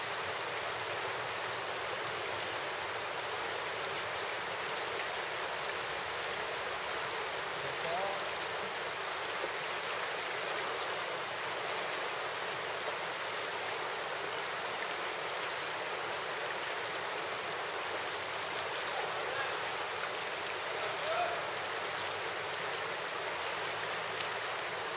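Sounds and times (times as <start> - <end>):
river water rushing: 0.0 - 24.9.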